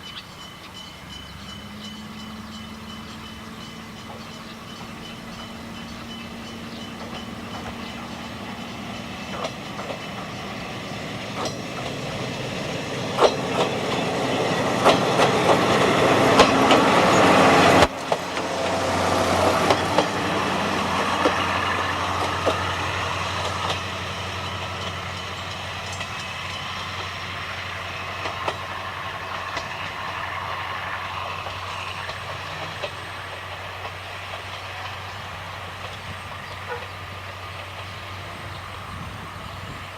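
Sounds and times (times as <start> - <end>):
train running with low hum: 0.0 - 39.9
train wheels clickety-clack: 0.1 - 39.9.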